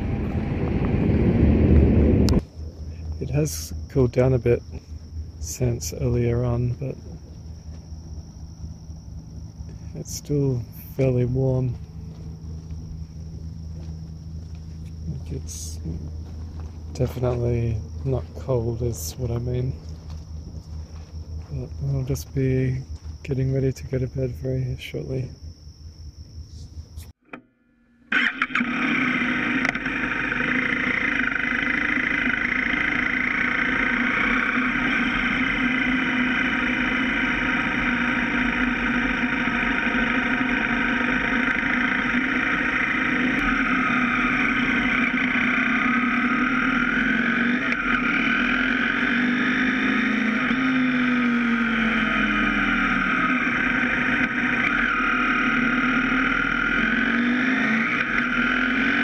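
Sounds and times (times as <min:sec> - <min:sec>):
motorcycle engine running: 0:00.0 - 0:27.2, 0:28.2 - 0:59.0.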